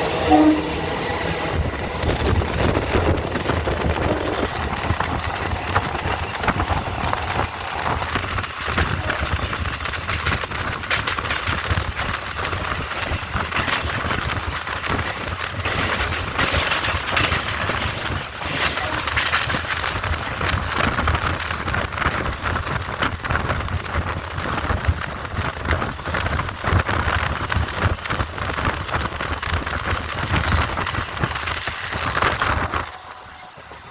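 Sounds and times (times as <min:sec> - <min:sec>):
train wheels rattling on rails: 0:00.0 - 0:33.9.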